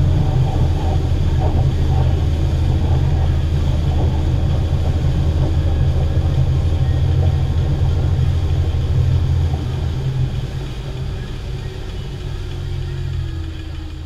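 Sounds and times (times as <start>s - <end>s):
churned water rushing: 0.0s - 14.0s
outboard motor droning: 0.0s - 14.0s.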